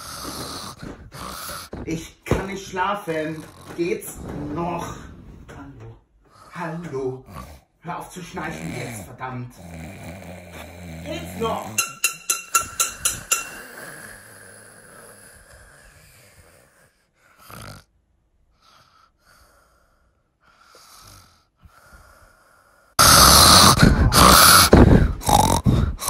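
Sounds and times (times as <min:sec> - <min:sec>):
person snoring: 0:00.0 - 0:01.9, 0:02.8 - 0:11.8, 0:13.4 - 0:17.9, 0:18.8 - 0:26.0.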